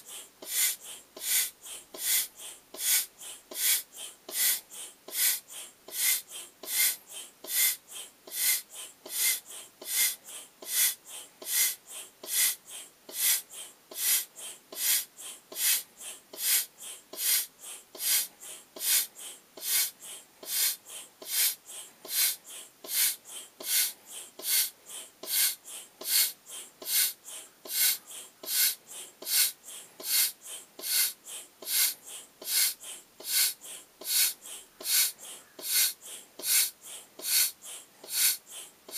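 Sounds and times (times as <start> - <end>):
foot pump hissing puffs: 0.0 - 38.9.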